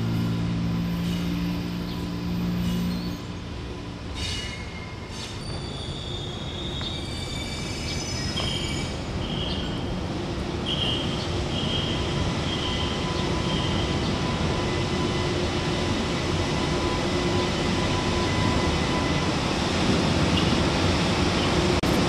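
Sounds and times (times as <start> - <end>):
low hum of electric locomotives: 0.0 - 22.0
railway wheels squealing: 0.0 - 22.0.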